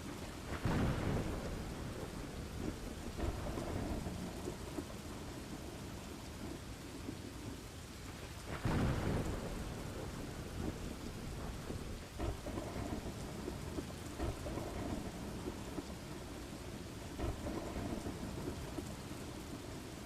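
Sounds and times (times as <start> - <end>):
low thunder rumbling: 0.0 - 20.0
rain falling: 0.0 - 20.0.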